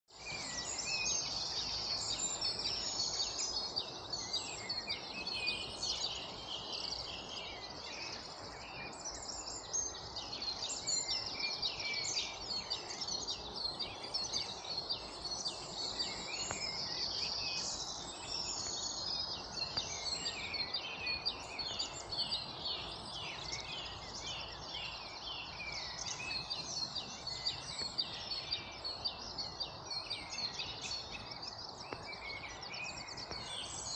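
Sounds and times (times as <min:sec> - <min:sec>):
birds singing and chirping: 0:00.1 - 0:33.9.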